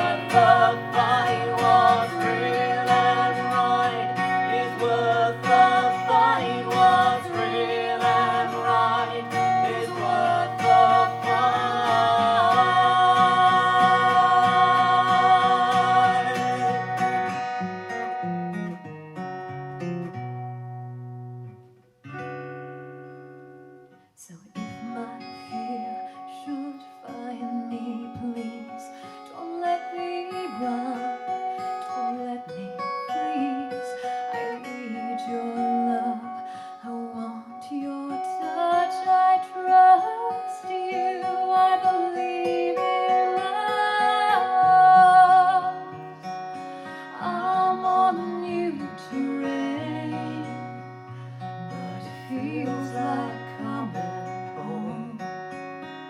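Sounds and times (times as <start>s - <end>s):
acoustic guitar music: 0.0s - 56.0s.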